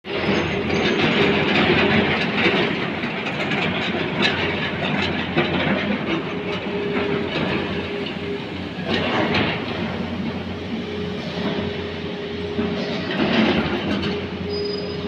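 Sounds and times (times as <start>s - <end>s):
diesel engine drone: 0.1s - 15.0s.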